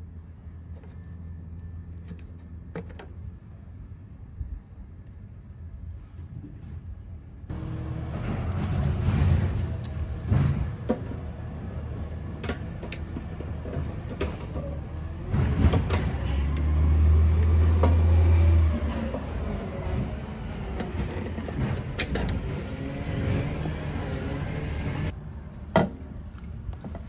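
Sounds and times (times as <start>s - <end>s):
motor vehicle rumble: 0.0s - 27.0s.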